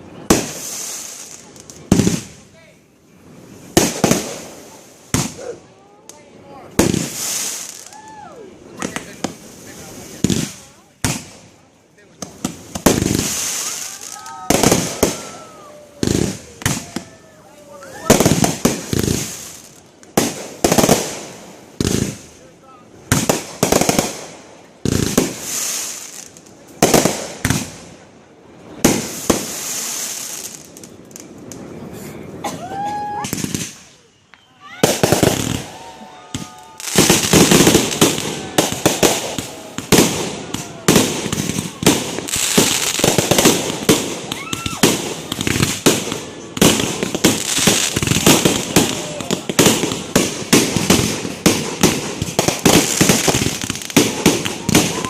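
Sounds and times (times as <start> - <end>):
firework booms: 0.0 - 2.5, 3.4 - 5.6, 6.6 - 8.0, 8.7 - 11.6, 12.2 - 28.1, 28.7 - 31.8, 33.2 - 34.0, 34.8 - 55.0
firework crackling: 0.0 - 55.0.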